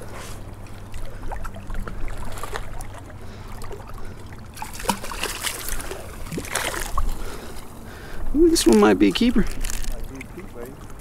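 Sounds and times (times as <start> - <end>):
fish splashing at water surface: 0.0 - 11.0
lapping water: 0.0 - 11.0
wind: 0.0 - 11.0.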